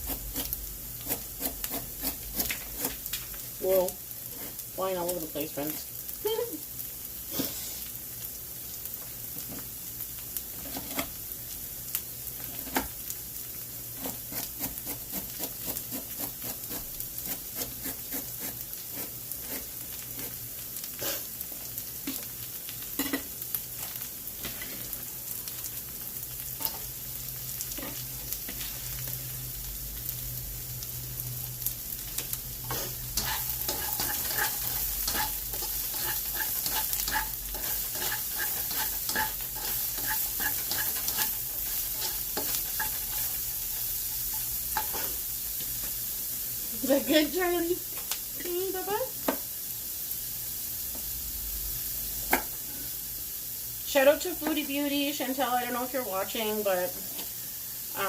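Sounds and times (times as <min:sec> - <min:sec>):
vegetables sizzling in a pan: 0:00.0 - 0:58.0.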